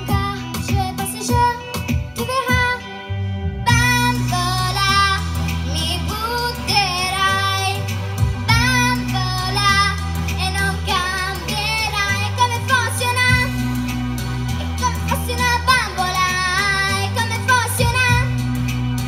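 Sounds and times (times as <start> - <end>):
girl singing into microphone: 0.0 - 13.8, 14.8 - 18.6
backing music with bass: 0.0 - 19.0.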